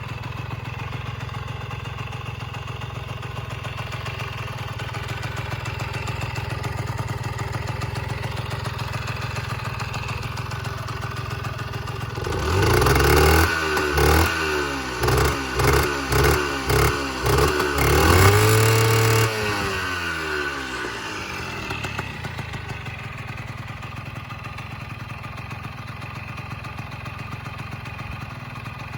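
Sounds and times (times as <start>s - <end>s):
small motorcycle engine revving: 0.0s - 24.0s.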